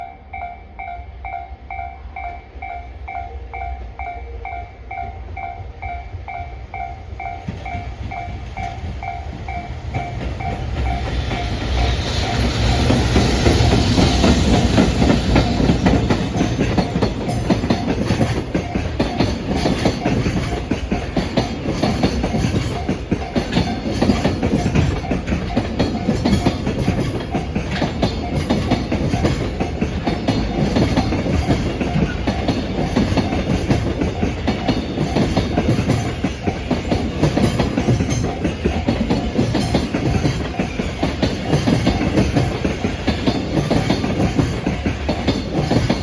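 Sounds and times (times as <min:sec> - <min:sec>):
freight train rumble: 0:00.0 - 0:46.0
train wheel clatter: 0:06.8 - 0:46.0.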